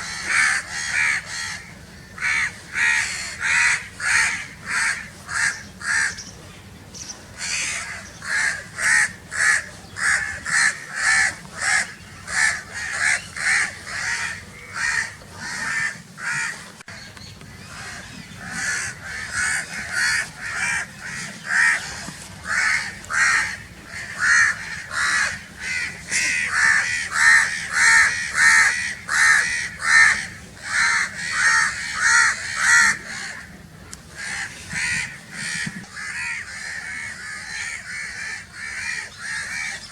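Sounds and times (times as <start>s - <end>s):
crows cawing: 0.0s - 6.2s, 7.4s - 16.6s, 17.6s - 33.5s, 34.2s - 39.9s.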